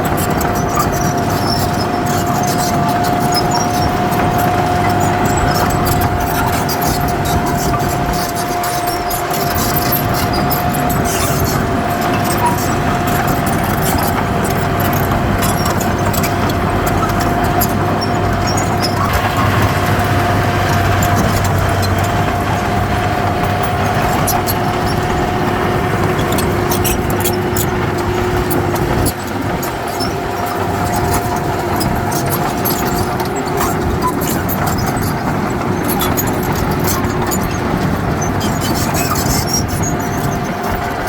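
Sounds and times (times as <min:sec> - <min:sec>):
steady whine: 0:00.0 - 0:40.5
diesel machinery engine drone: 0:00.0 - 0:41.0.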